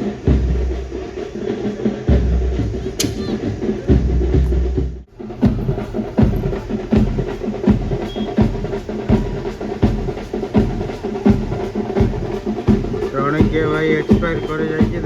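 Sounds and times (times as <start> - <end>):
drum-led folk band music: 0.0 - 15.0
steady drum beat: 0.0 - 15.0.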